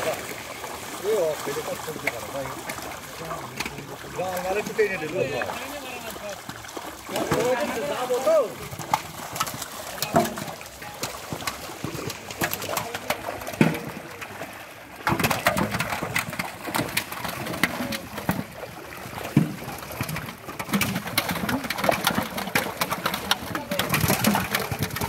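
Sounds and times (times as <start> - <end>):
fish splashing in water: 0.0 - 25.0.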